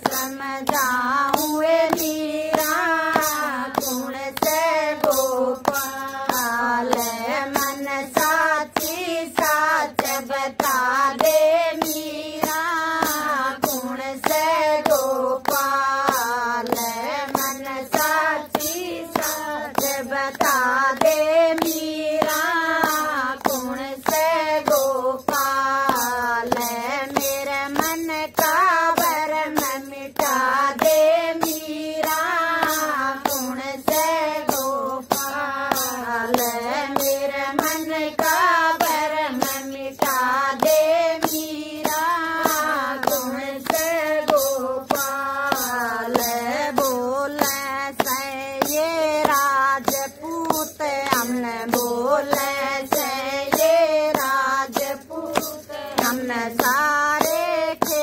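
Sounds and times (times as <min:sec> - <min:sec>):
hand clapping: 0:00.0 - 0:58.0
women singing: 0:00.0 - 0:58.0.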